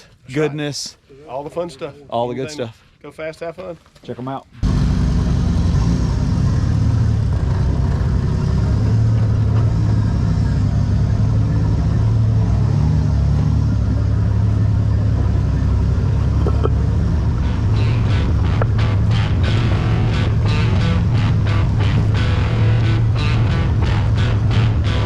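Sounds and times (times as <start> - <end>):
vehicle engine droning: 4.6 - 25.0.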